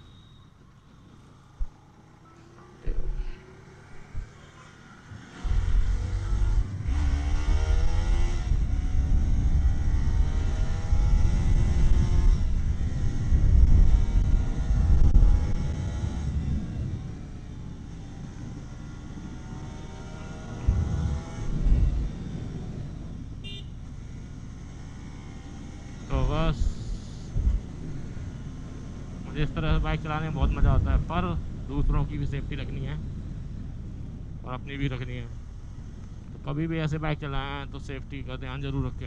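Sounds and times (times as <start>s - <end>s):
motorcycle engine revving: 0.0s - 39.0s
wind rumble on microphone: 5.0s - 39.0s.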